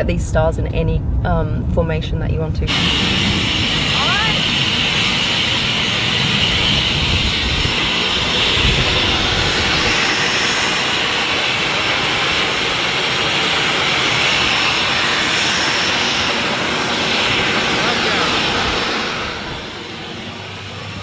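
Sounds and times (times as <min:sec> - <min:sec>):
jet engines running: 0:00.0 - 0:21.0
wind buffeting microphone: 0:00.0 - 0:21.0.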